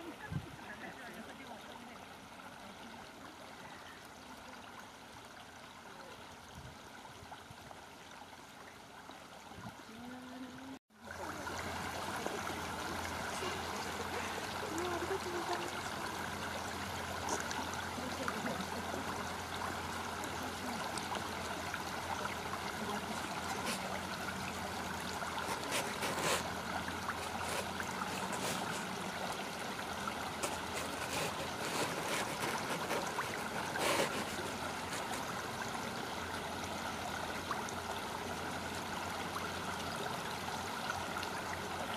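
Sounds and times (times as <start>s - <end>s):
river water running: 0.0s - 41.9s.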